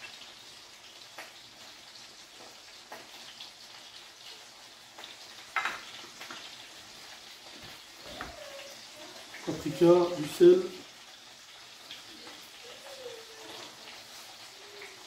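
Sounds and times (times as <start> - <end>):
faint steady sizzle: 0.0 - 15.0.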